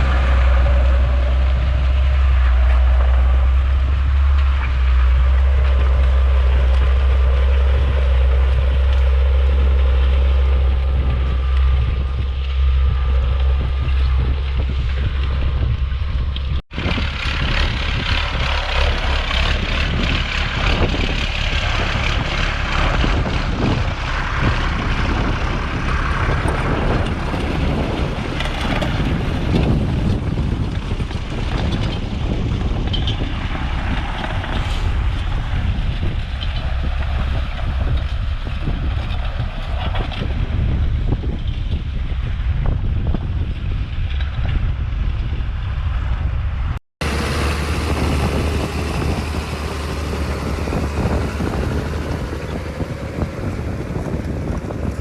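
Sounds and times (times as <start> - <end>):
tractor engines running: 0.0 - 55.0
wind rumble on microphone: 0.0 - 55.0.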